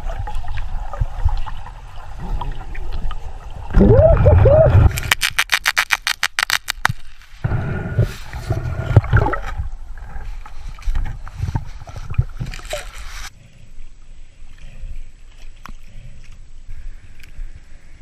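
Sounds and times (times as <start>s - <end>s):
steady water background: 0.0s - 18.0s
water sloshing and bubbling: 0.0s - 18.0s.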